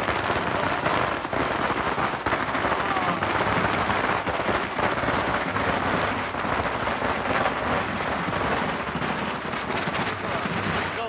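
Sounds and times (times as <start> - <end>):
firecrackers crackling: 0.0 - 11.0.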